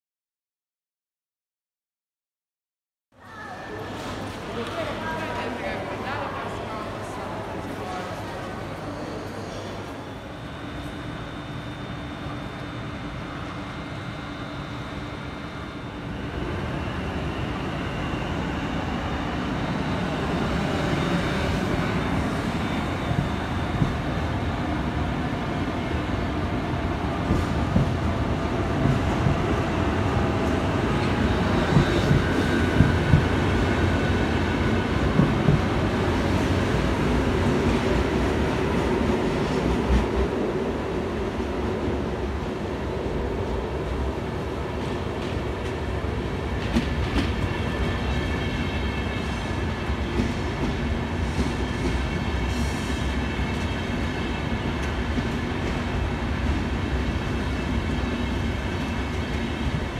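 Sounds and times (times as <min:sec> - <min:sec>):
train wheels rumbling on track: 0:10.6 - 0:59.9.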